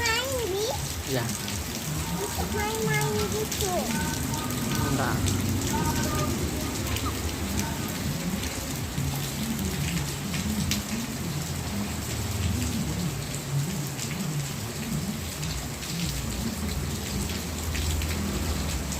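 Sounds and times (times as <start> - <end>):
rain falling: 0.0 - 18.9
raindrops ticking on surfaces: 0.0 - 18.9.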